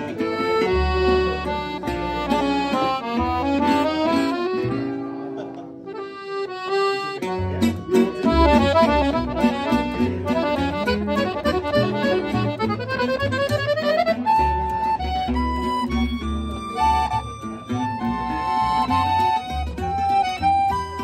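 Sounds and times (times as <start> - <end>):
accordion playing a waltz: 0.0 - 21.0
plucked upright bass: 0.0 - 21.0.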